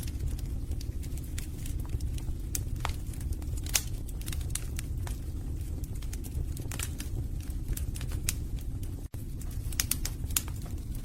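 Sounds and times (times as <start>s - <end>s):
low rumble of flames: 0.0s - 11.0s
wood fire crackling and popping: 0.0s - 11.0s.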